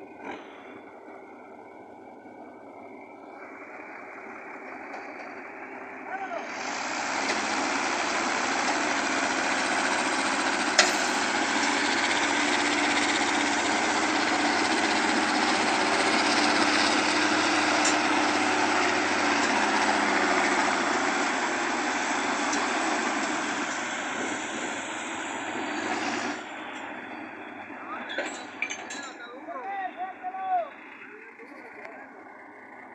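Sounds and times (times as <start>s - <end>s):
heavy vehicle engine under load: 0.0s - 32.9s.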